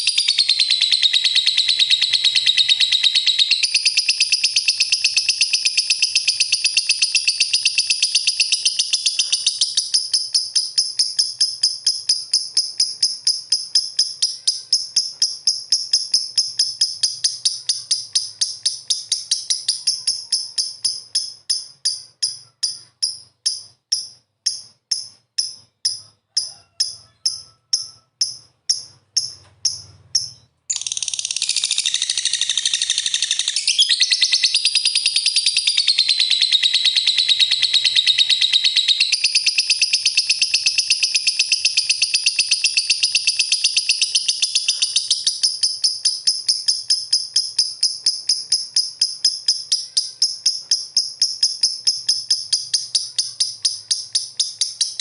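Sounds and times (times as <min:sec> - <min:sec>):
lovebird chirping: 0:00.0 - 0:55.0.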